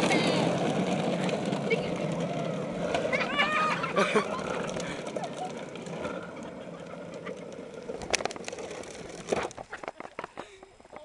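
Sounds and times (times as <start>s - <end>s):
toy wagon wheels rolling on asphalt: 0.0s - 11.0s.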